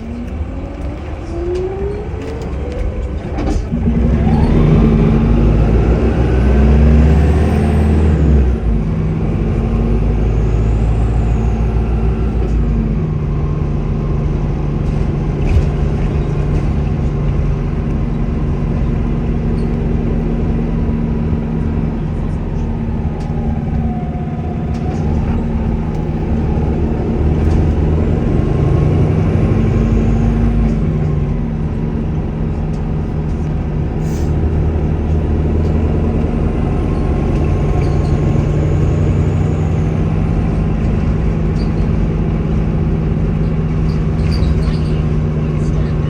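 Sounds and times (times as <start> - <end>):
bus diesel engine under load: 0.0 - 46.0.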